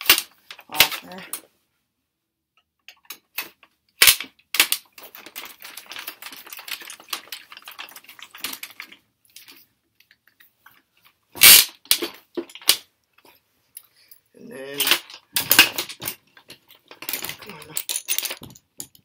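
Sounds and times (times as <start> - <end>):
metal clicks and rattling: 2.8 - 14.2, 14.8 - 19.0.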